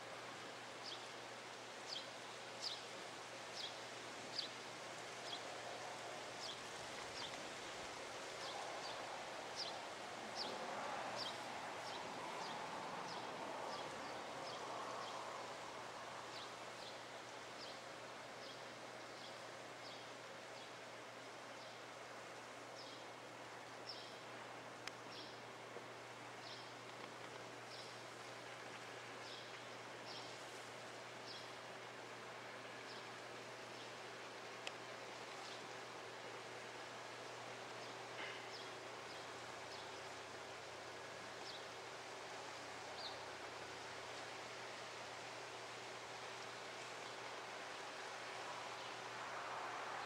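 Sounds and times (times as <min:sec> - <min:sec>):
background hiss: 0:00.0 - 0:50.0.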